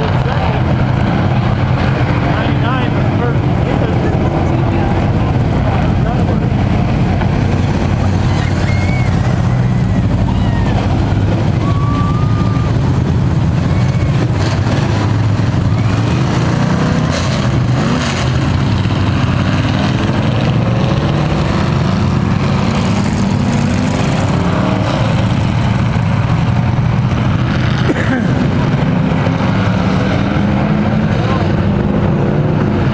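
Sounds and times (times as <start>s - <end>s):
race truck engines droning: 0.0s - 32.9s.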